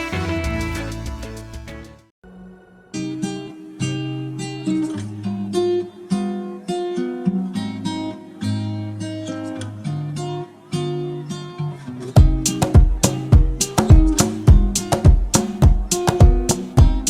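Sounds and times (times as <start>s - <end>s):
strummed acoustic guitar: 2.9s - 17.0s.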